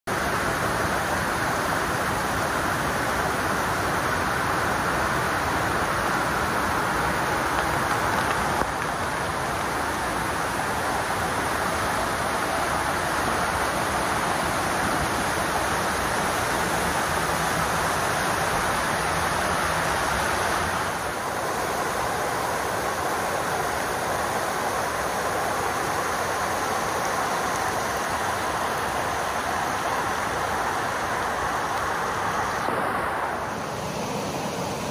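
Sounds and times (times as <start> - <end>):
floodwater rushing in rapids: 0.1 - 34.9
heavy rain falling: 0.1 - 34.9.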